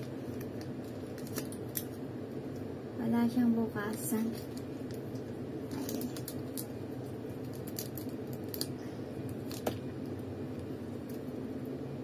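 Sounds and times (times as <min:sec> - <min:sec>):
plastic sachet crinkling: 0:00.0 - 0:02.0, 0:03.8 - 0:11.4.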